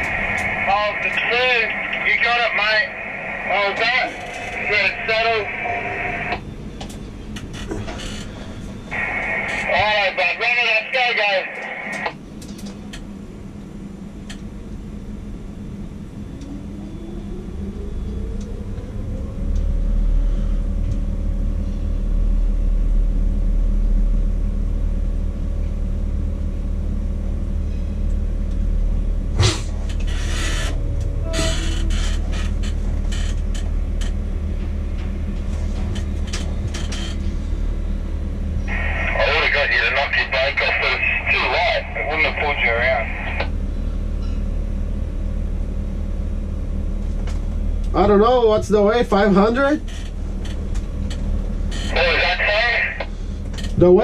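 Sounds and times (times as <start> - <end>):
crane hoist rumble and whine: 0.0 - 54.0.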